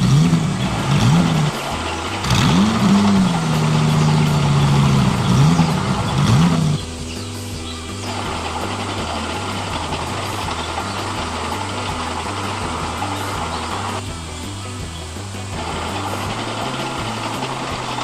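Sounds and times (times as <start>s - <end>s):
model motor and gear noise: 0.0s - 18.0s.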